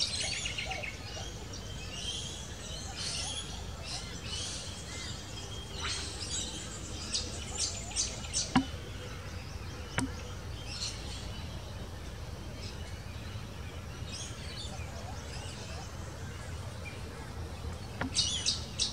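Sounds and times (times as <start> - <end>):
low background hum: 0.0 - 18.9
small birds chirping: 0.0 - 18.9.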